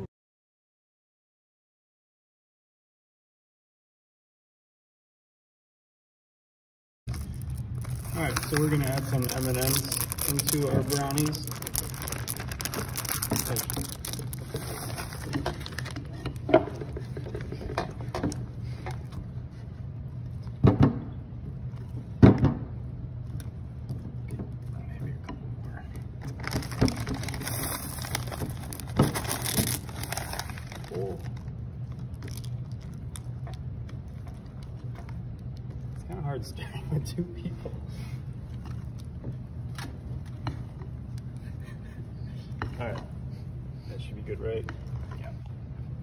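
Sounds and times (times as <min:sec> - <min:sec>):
steady low hum: 0:07.1 - 0:46.0.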